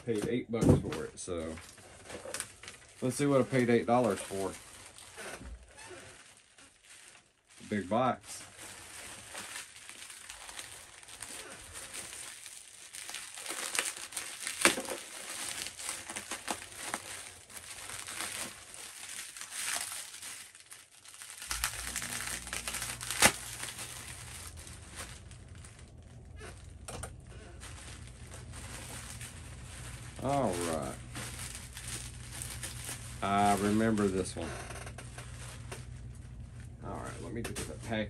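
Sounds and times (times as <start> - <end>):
plastic packing material crinkling: 0.9 - 38.0.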